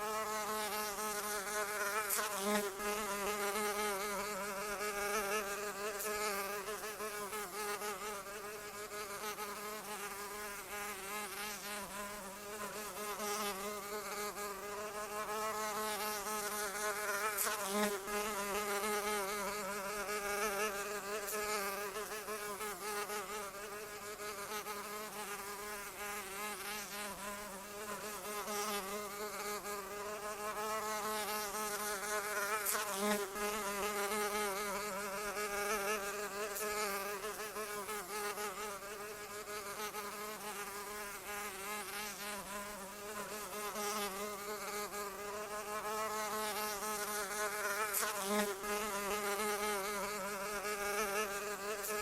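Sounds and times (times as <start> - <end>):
flying insect buzzing: 0.0 - 52.0.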